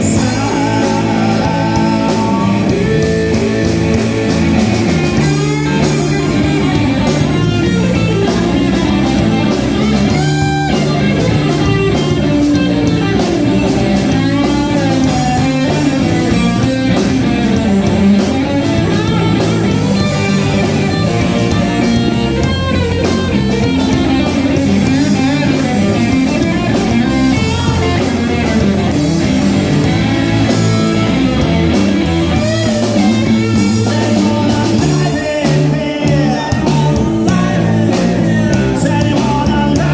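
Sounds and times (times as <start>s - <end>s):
live rock band instrumental: 0.0s - 39.9s.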